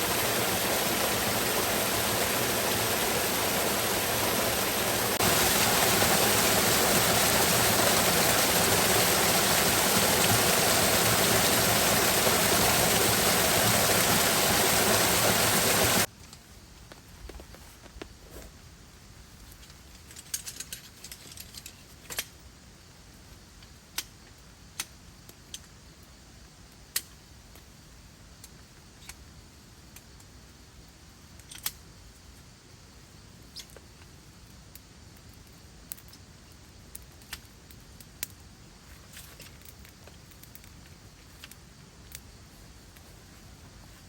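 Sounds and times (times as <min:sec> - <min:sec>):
faint steady hiss: 0:00.0 - 0:44.0.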